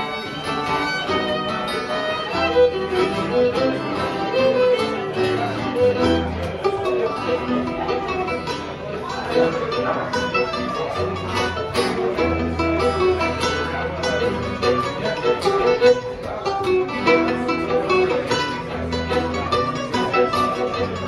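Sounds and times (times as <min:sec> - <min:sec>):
acoustic guitar: 0:00.0 - 0:21.0
bowed fiddle: 0:00.0 - 0:21.0
plucked string instrument: 0:00.0 - 0:21.0.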